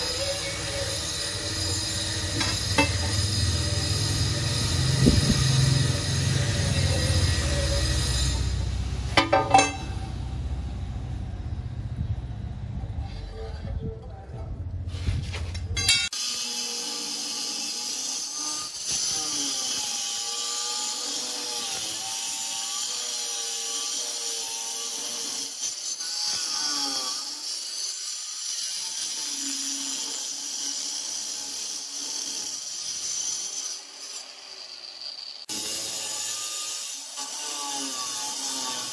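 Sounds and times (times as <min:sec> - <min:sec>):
stone cutter grinding granite: 0:00.0 - 0:10.1, 0:15.8 - 0:38.9.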